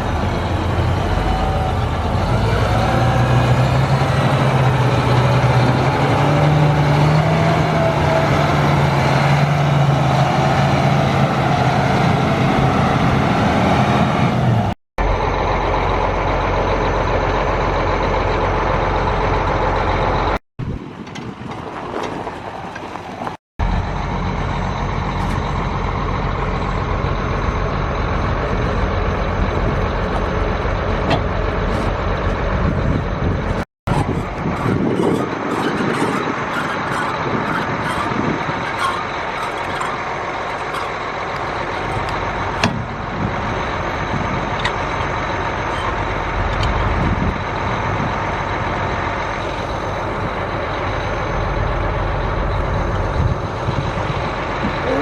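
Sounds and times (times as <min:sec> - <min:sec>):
farm vehicle engine rumbling: 0:00.0 - 0:55.0.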